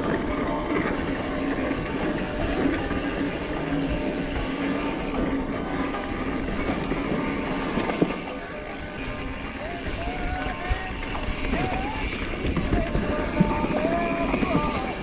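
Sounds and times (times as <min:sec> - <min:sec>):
bike tyres rattling on dirt: 0:00.0 - 0:15.0.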